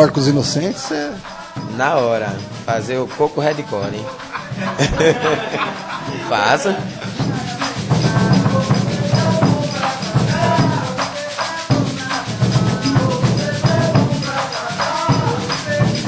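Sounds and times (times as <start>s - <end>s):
shaker rhythm: 0.0s - 16.0s
tambourine jingles rattling: 0.0s - 16.0s.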